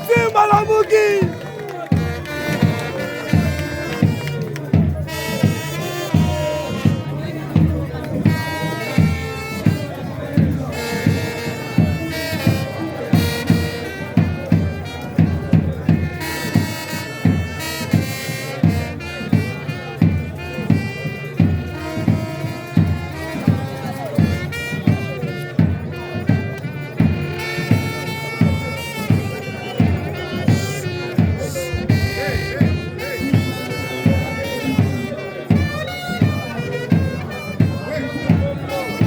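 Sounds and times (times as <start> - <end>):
fast steady drum beat: 0.0 - 39.0.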